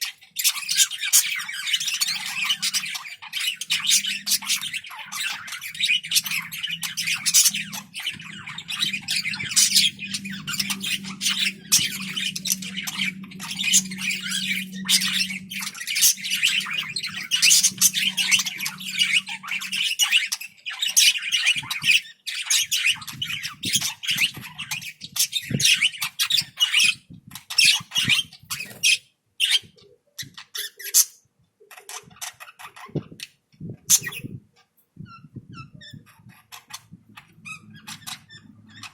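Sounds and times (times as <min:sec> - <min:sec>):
parrots chirping and squawking: 0:00.0 - 0:38.9.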